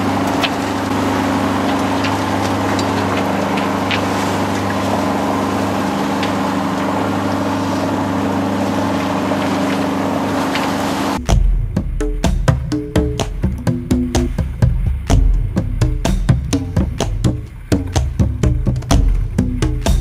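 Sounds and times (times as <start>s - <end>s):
boat engine humming: 0.0s - 20.0s
water rushing: 0.0s - 20.0s
wind: 0.0s - 20.0s.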